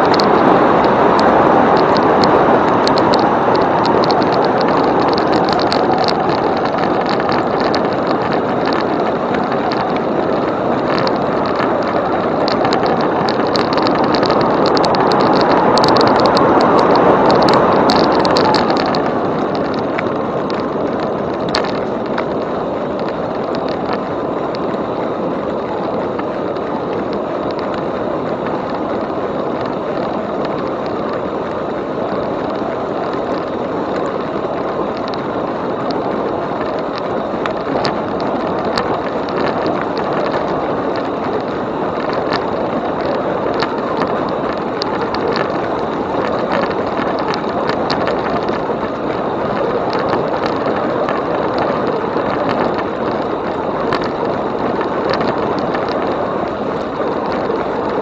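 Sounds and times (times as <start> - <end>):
bike clicking and rattling: 0.0 - 58.0
bike tyres rolling: 0.0 - 58.0
wind rush: 0.0 - 58.0.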